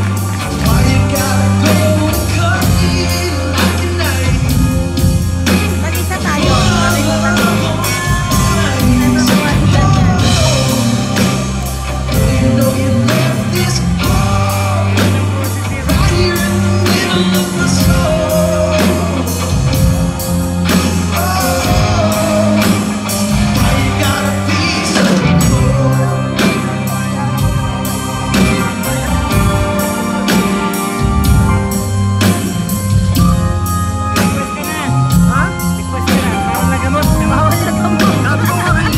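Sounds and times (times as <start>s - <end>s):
live blues band playing: 0.0s - 38.9s
steady drum beat: 0.0s - 38.9s.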